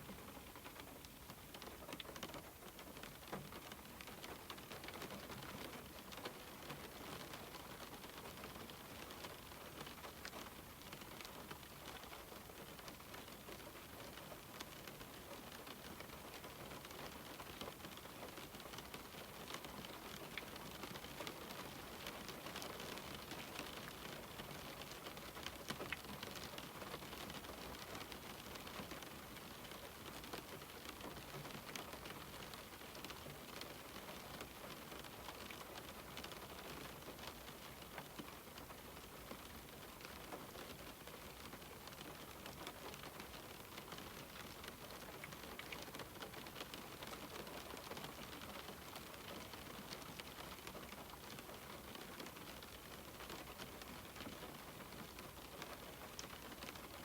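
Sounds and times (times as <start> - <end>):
rain on a window pane: 0.0 - 57.0
raindrops ticking: 0.0 - 57.0.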